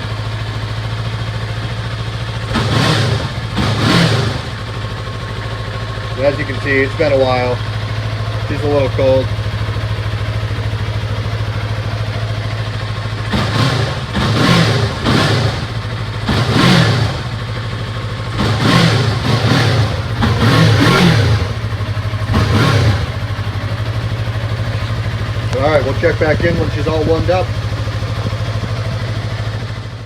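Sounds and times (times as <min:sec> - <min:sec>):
engine throttle blips: 0:00.0 - 0:30.0
motorcycle engine idling: 0:00.0 - 0:30.0.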